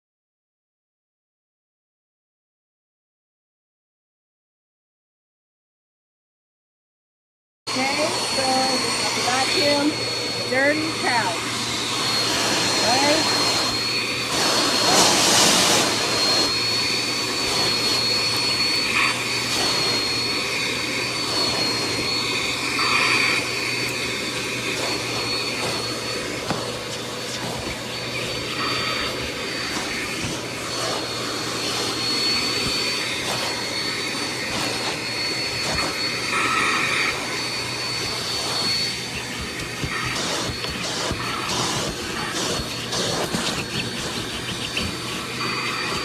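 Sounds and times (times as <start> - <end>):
vacuum cleaner running: 7.7 - 46.0.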